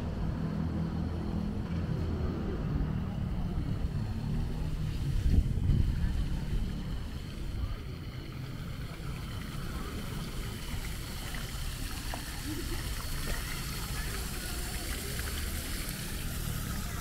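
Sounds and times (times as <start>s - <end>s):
faint voices: 2.3s - 17.0s
noisy hiss: 2.8s - 17.0s.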